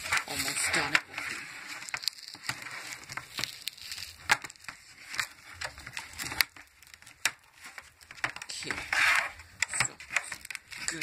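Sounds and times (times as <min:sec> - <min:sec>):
packaging crackling and crinkling: 0:00.0 - 0:11.0.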